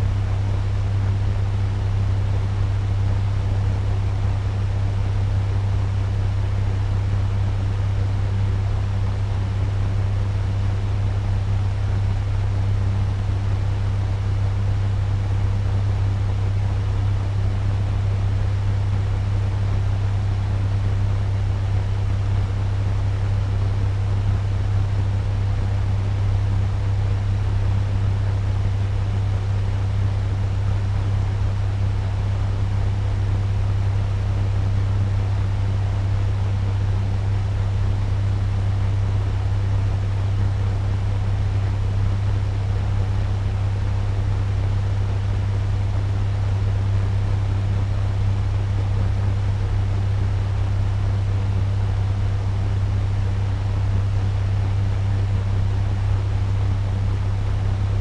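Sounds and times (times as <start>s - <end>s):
fan running with low hum: 0.0s - 58.0s.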